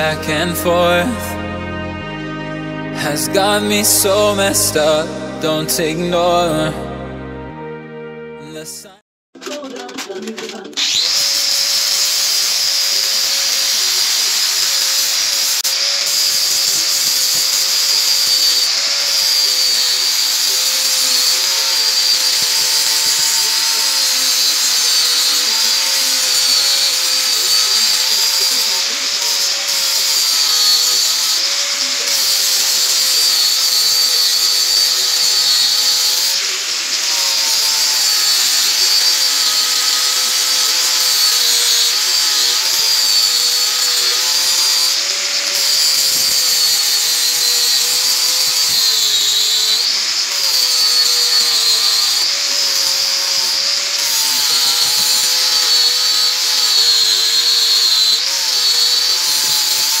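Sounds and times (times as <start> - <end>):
angle grinder grinding metal: 0.0 - 7.2, 10.5 - 60.0.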